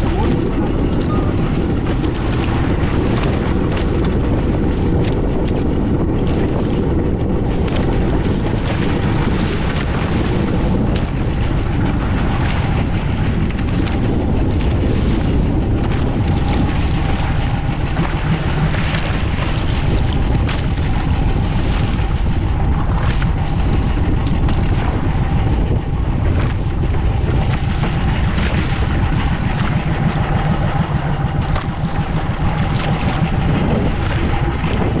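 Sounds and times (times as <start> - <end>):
boat engine rumble: 0.0 - 35.0
wind buffeting microphone: 0.0 - 35.0.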